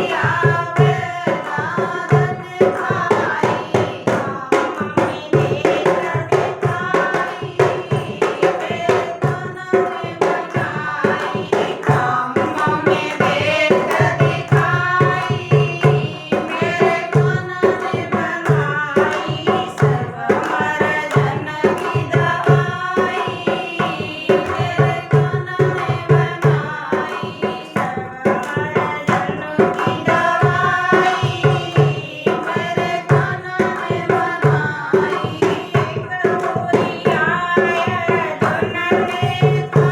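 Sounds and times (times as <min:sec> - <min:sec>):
woman singing: 0:00.0 - 0:39.9.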